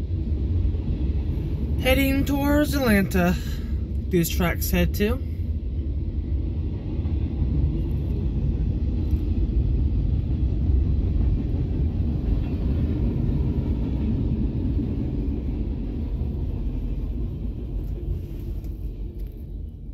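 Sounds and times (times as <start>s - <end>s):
train wheels rumbling on track: 0.0s - 19.9s.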